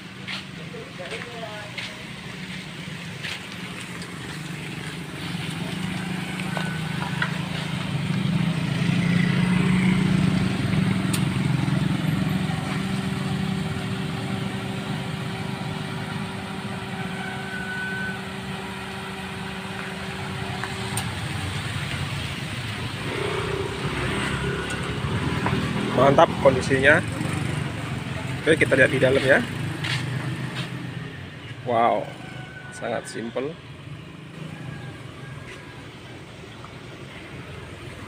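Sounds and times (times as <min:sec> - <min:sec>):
vehicle engine hum: 0:00.0 - 0:38.0.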